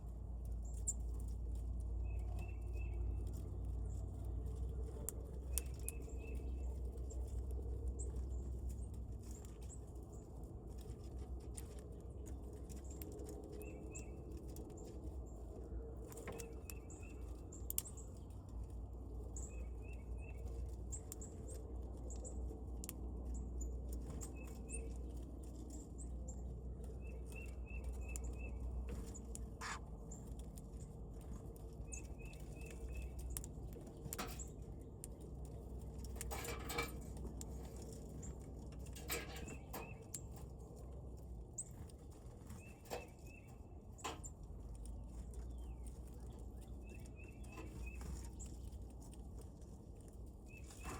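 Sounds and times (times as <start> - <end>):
birds chirping: 0.5 - 48.8, 50.0 - 50.9.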